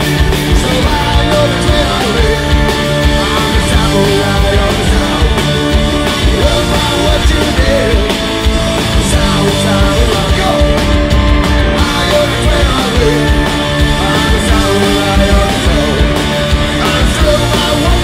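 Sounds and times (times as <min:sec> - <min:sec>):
rock band playing: 0:00.0 - 0:18.0
man singing into a microphone: 0:00.5 - 0:05.5, 0:06.2 - 0:08.2, 0:09.0 - 0:10.8, 0:11.8 - 0:18.0.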